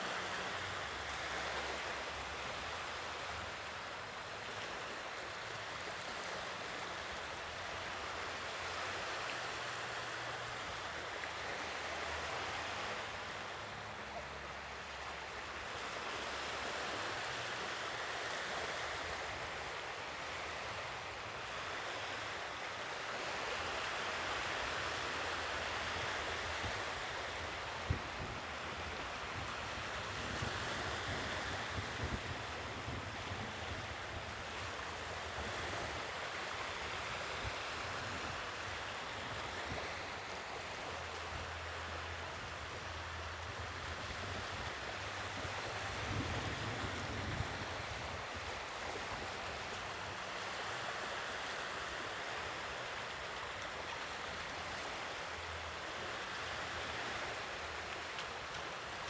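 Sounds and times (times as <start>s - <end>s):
sea waves washing ashore: 0.0s - 59.0s.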